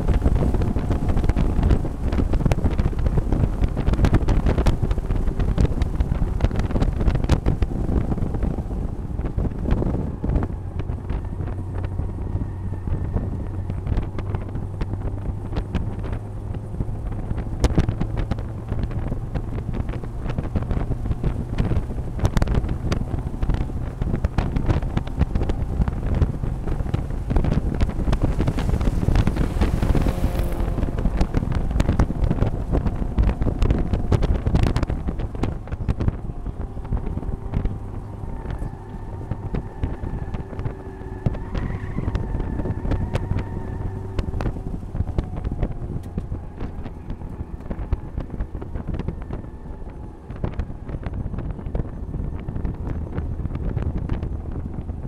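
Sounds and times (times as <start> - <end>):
race car engine running: 0.0 - 55.0
wind buffeting microphone: 0.0 - 55.0.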